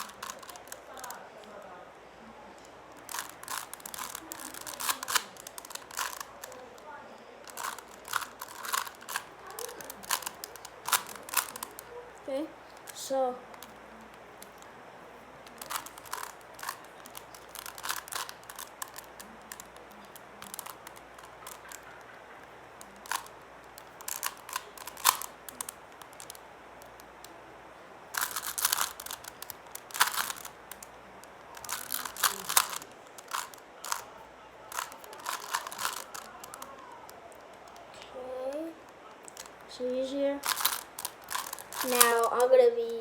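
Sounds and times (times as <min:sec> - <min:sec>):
puzzle cube plastic clicks: 0:00.0 - 0:01.7, 0:02.5 - 0:27.5, 0:28.1 - 0:42.9.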